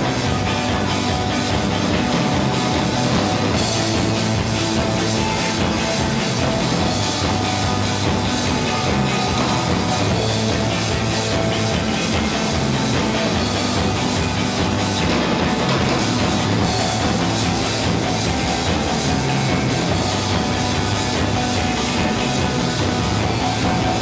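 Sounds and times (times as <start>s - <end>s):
drum kit: 0.0s - 24.0s
live rock band playing: 0.0s - 24.0s.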